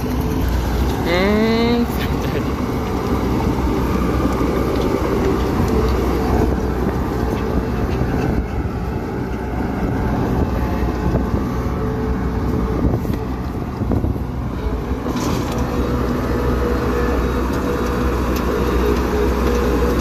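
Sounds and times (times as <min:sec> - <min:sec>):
bulldozer diesel engine rattling: 0:00.0 - 0:20.0.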